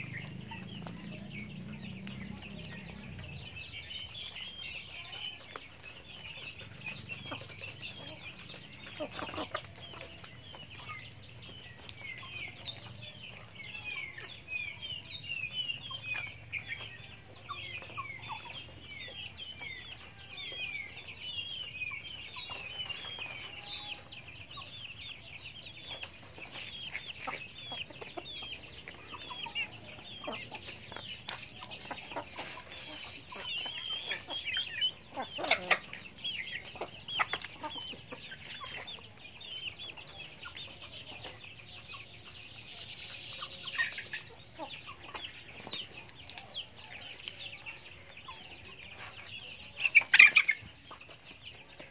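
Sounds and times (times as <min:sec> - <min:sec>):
chickens clucking: 0:00.0 - 0:51.9
chicks peeping: 0:00.0 - 0:51.9.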